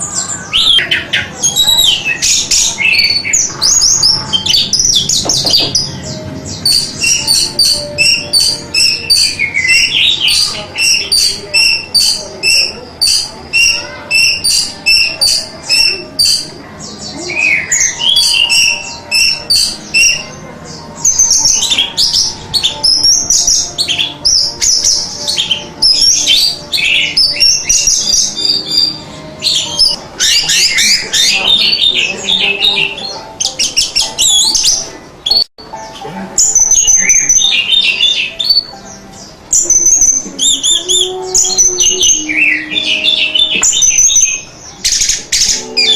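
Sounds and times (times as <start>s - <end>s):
thrush singing: 0.0s - 45.9s.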